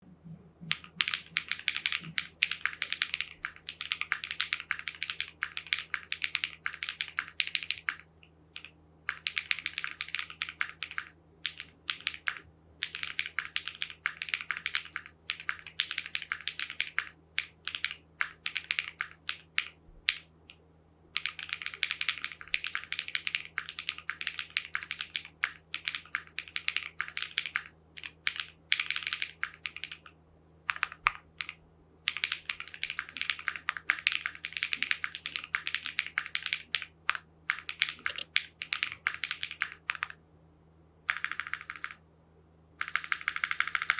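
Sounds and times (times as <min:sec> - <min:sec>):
mechanical keyboard typing: 0:00.7 - 0:20.3, 0:21.2 - 0:40.2, 0:41.1 - 0:42.0, 0:42.8 - 0:43.9.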